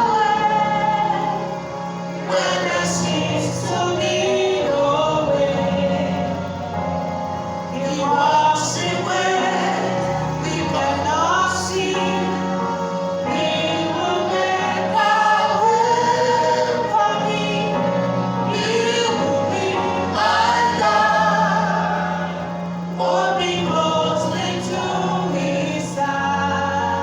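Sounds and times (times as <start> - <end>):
congregation singing: 0.0 - 27.0
steady bass: 0.0 - 27.0.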